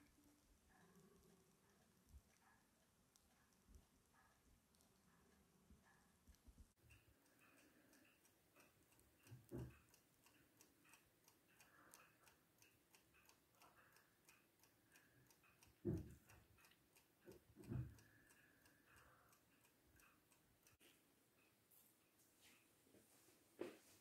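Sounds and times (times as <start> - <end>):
mantel clock ticking: 0.0 - 22.2.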